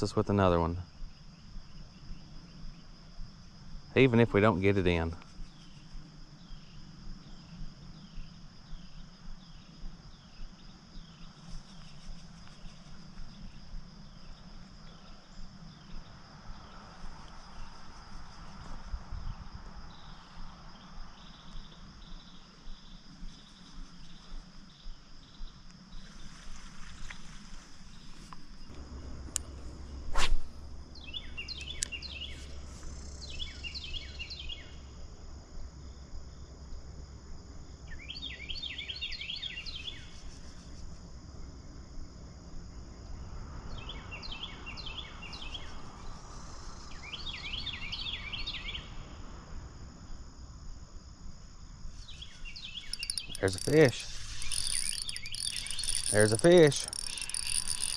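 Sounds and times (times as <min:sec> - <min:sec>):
songbird singing: 0:00.0 - 0:35.0, 0:35.7 - 0:49.2, 0:51.8 - 0:57.9
insects chirring: 0:00.0 - 0:57.9.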